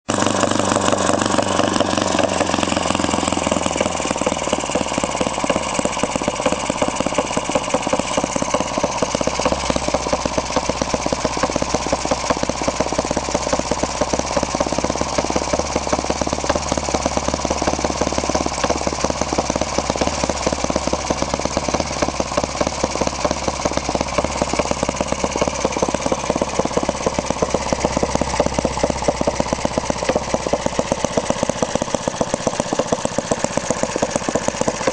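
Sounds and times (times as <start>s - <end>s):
model engine running: 0.0s - 34.9s.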